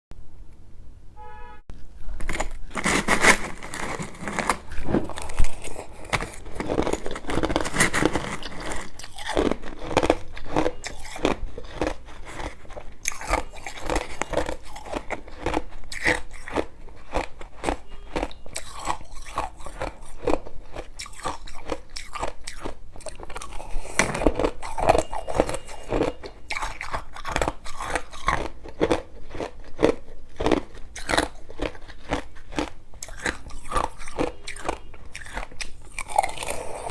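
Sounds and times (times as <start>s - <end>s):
crunching ice being chewed: 2.1s - 36.9s.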